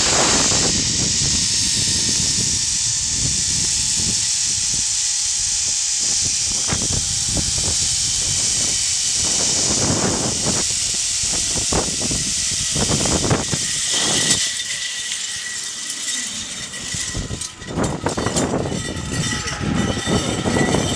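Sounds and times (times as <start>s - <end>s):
wind rushing over microphone: 0.0s - 14.8s, 16.6s - 20.9s
zip-line pulleys hissing on cable: 0.0s - 20.9s.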